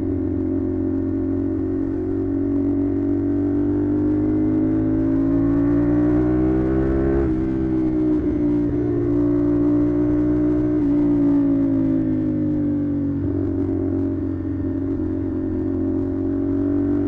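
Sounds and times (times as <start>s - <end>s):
motorcycle engine rising in pitch: 0.0s - 17.0s.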